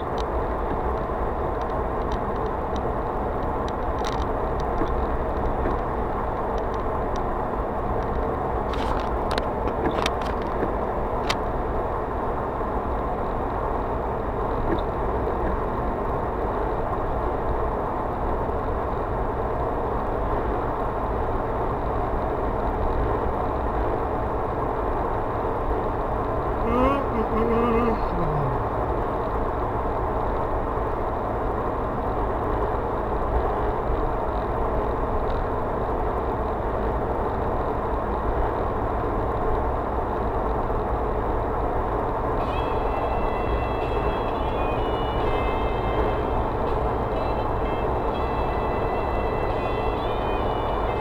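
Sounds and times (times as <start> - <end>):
car road and engine noise: 0.0 - 51.0.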